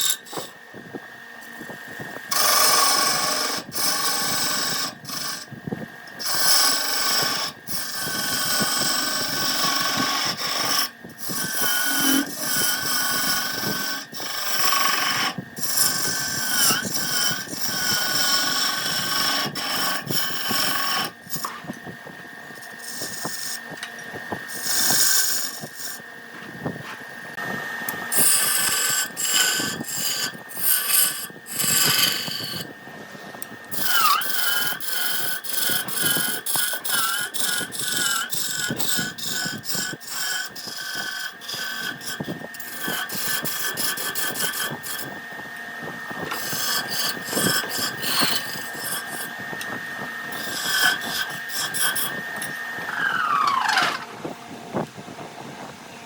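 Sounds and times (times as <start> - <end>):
turning tool scraping wood: 0.0 - 54.1
wood lathe whine: 0.0 - 56.0.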